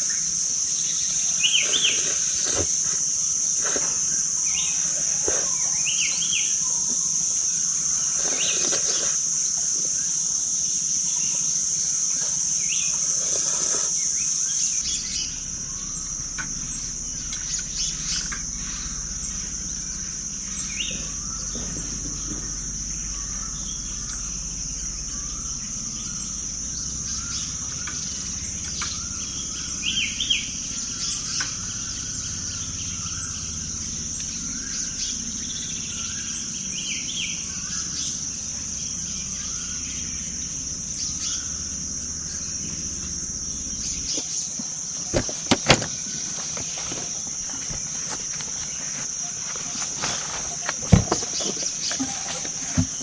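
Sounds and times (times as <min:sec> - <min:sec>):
birds chirping: 0:00.0 - 0:10.1, 0:12.5 - 0:53.0
high-pitched insect drone: 0:00.0 - 0:53.0.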